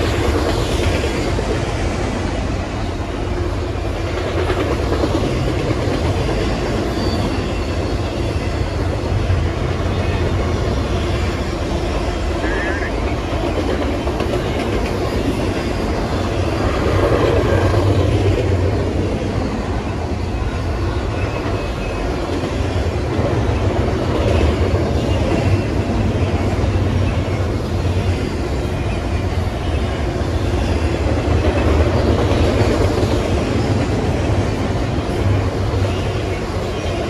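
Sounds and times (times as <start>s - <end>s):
freight train wheels on rails: 0.0s - 37.0s.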